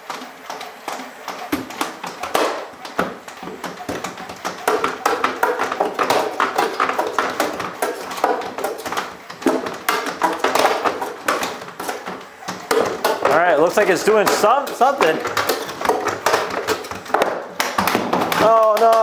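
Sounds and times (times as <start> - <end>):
robot feet clattering on wooden stairs: 0.0 - 19.0.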